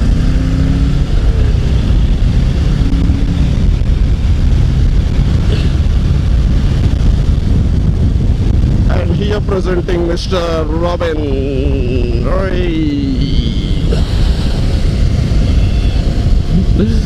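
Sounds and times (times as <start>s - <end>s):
motorcycle engine drone: 0.0s - 17.0s
wind rush on microphone: 0.0s - 17.0s.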